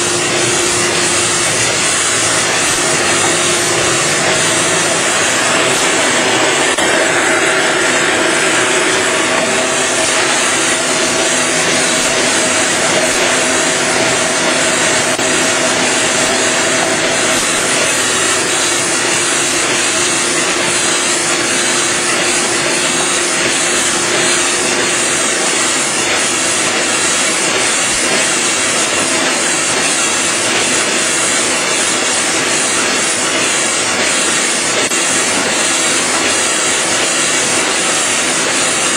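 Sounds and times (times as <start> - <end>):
printing machine running: 0.0 - 38.9.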